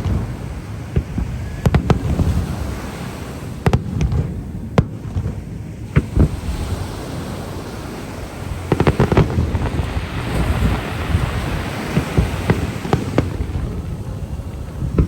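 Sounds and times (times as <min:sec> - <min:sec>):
fireworks bangs with echoes: 0:00.0 - 0:15.0
steady low rumble: 0:00.0 - 0:15.0.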